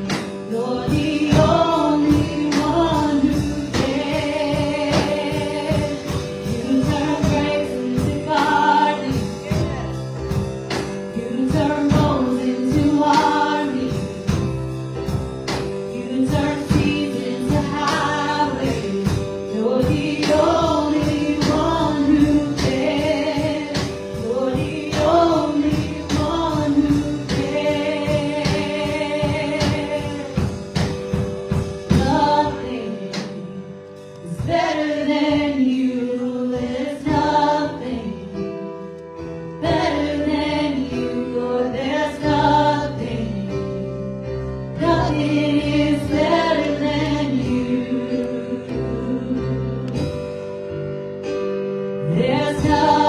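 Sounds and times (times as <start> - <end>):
drum kit beat: 0.0 - 38.6, 39.2 - 44.2, 44.8 - 49.0, 49.6 - 53.0
people singing gospel: 0.0 - 38.6, 39.6 - 44.0, 44.7 - 50.3, 52.0 - 53.0
keyboard: 0.0 - 53.0.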